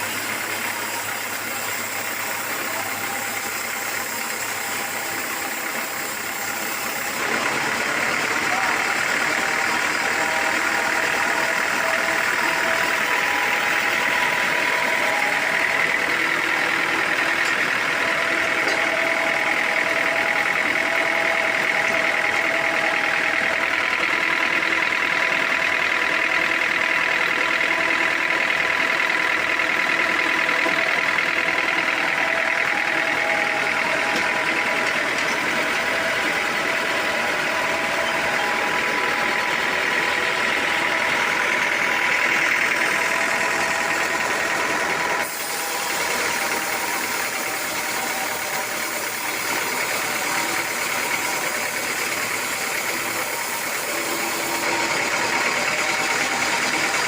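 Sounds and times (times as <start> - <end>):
sawmill machinery whining: 0.0 - 57.0.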